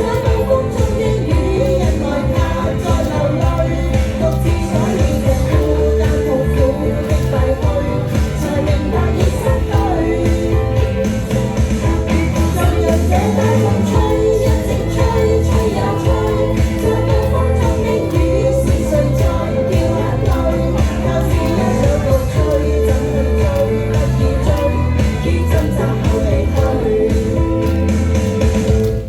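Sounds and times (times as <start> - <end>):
instrumental accompaniment: 0.0 - 29.0
pulsing bass line: 0.0 - 29.0
woman singing pop song: 0.0 - 29.0.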